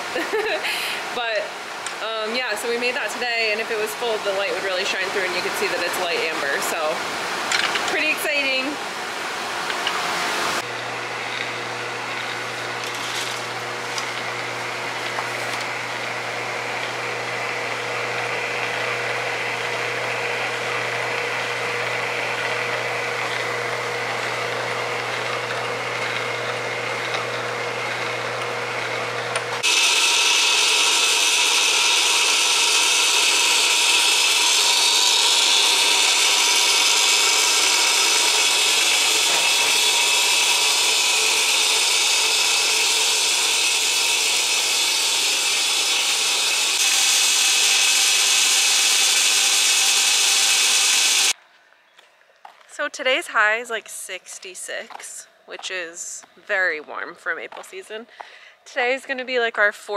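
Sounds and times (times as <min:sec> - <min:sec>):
mechanical hum and whir: 0:00.0 - 0:49.2.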